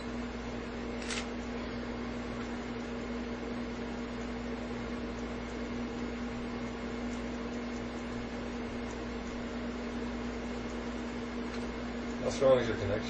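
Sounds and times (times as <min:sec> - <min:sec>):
machine hum with air hiss: 0:00.0 - 0:13.0.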